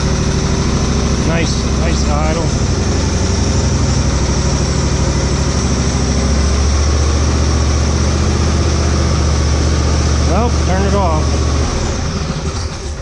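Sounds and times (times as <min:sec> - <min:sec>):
lawn tractor engine idling: 0:00.0 - 0:13.0.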